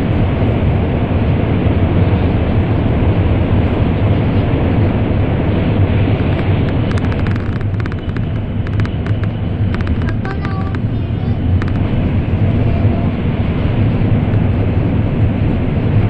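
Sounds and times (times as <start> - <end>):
train interior rumble: 0.0 - 16.0.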